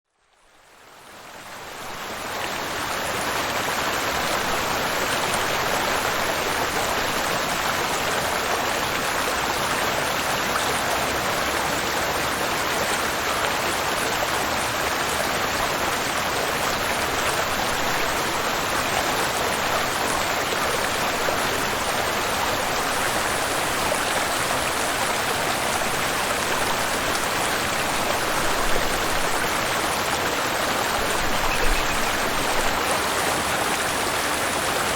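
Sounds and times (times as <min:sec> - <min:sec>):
rushing water: 0:00.2 - 0:34.9.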